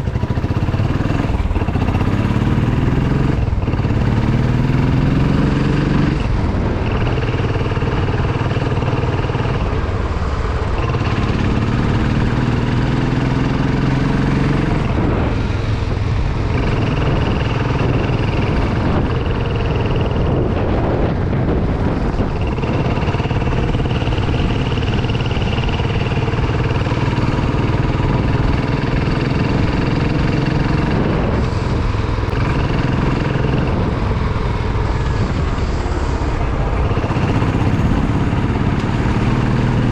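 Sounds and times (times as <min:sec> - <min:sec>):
motorcycle engine accelerating: 0:00.0 - 0:39.9
wind and road rumble: 0:00.0 - 0:39.9.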